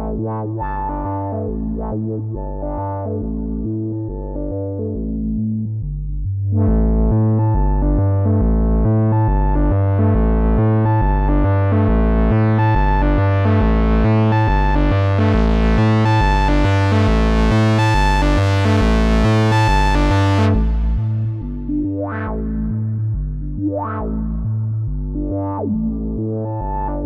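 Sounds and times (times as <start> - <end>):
synthesizer sequence with deep bass: 0.0 - 27.0.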